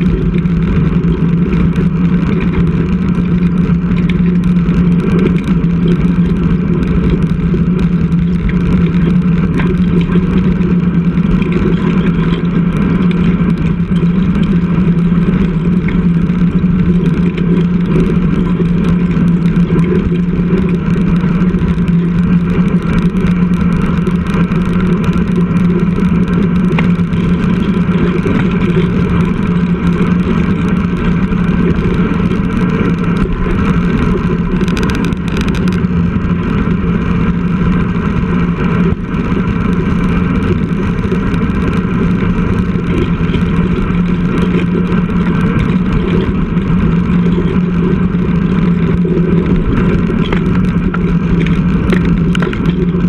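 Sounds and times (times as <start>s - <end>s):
constant low hum: 0.0s - 53.0s
road noise: 0.0s - 53.0s.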